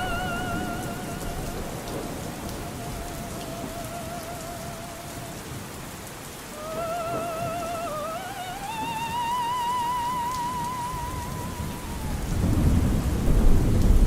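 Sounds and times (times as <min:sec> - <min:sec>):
faint opera singing: 0:00.0 - 0:13.5
steady rain: 0:00.0 - 0:14.0.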